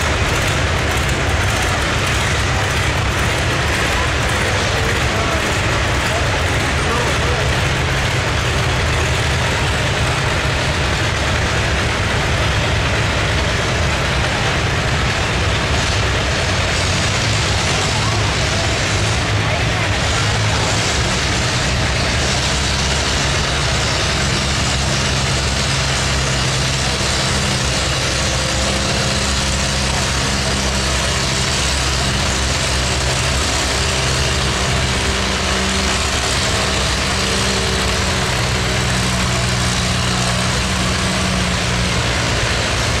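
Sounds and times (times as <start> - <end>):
tractor engine idling: 0.0 - 43.0.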